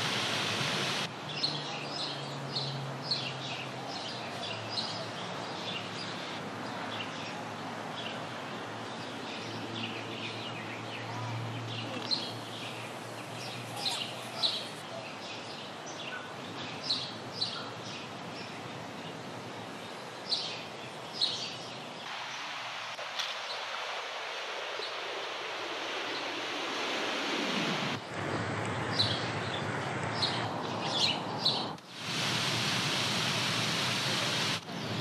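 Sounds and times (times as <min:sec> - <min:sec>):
birds chirping: 0:00.0 - 0:23.7, 0:26.0 - 0:32.0
outdoor background hiss: 0:00.0 - 0:35.0.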